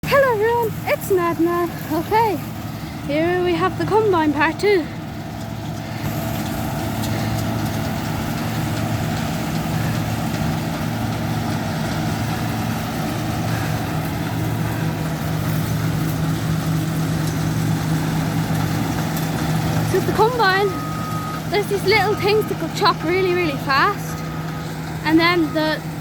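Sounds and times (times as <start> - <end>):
combine harvester engine running: 0.0 - 26.0.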